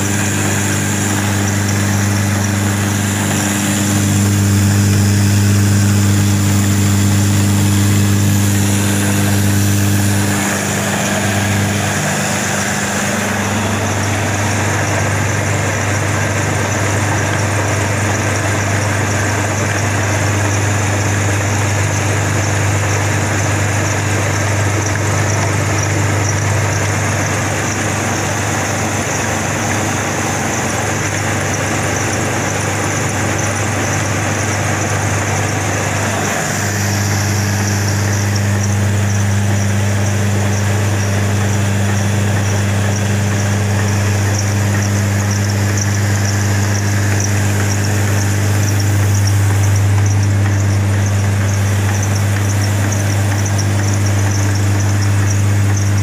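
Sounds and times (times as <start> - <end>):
flour mill humming: 0.0 - 56.0.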